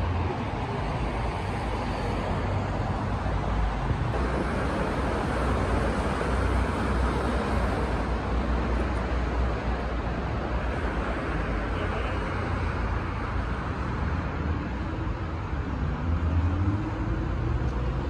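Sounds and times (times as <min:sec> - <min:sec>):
road traffic with low rumble: 0:00.0 - 0:18.0.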